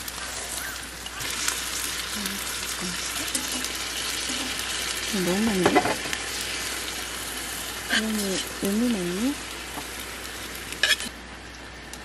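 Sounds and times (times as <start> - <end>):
noodles sizzling in pan: 0.0 - 12.0.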